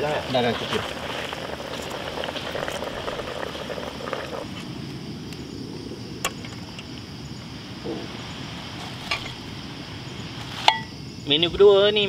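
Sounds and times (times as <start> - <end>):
crackling: 0.0 - 7.1, 7.7 - 11.0
insects chirring: 0.0 - 12.0.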